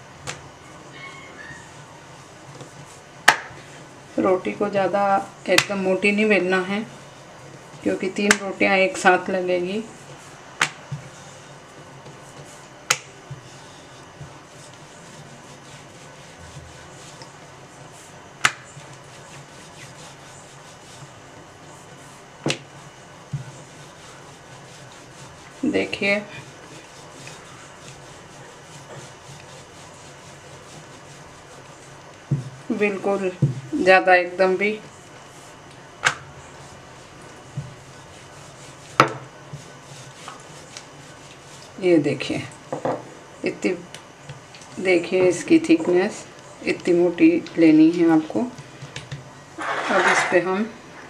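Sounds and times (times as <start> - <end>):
rolling pin rolling dough: 0.2 - 51.0.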